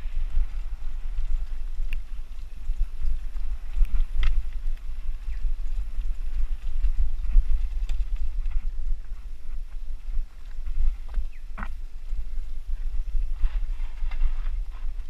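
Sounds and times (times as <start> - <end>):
wind rumble on microphone: 0.0 - 15.0
bike clicks and rattles: 0.1 - 15.0.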